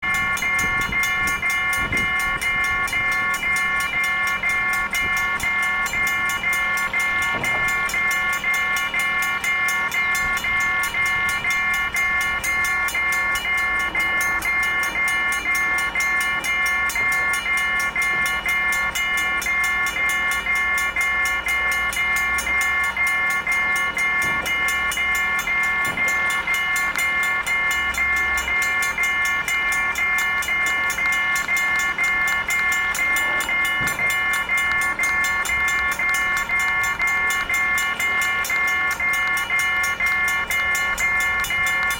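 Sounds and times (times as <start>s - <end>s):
warning bell ringing rapidly: 0.0s - 41.9s.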